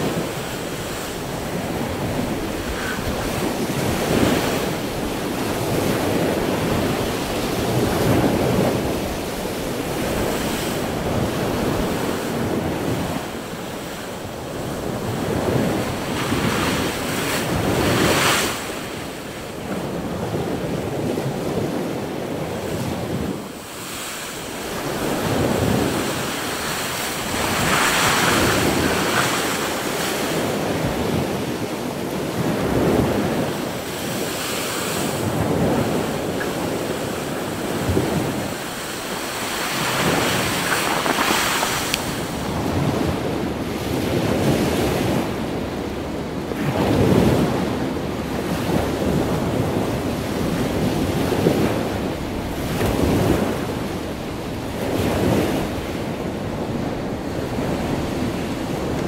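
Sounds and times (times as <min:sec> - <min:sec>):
waves crashing against seawall: 0:00.0 - 0:59.0
wind buffeting microphone: 0:00.0 - 0:59.0.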